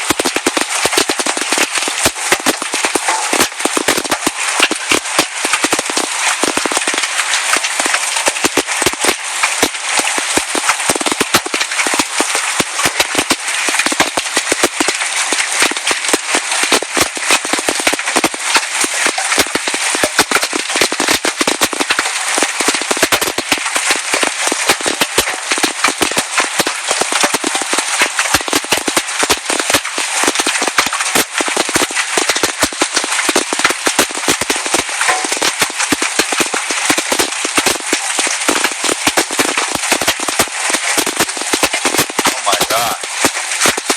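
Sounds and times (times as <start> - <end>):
hailstones clattering: 0.0 - 43.9
heavy rain hissing: 0.0 - 43.9.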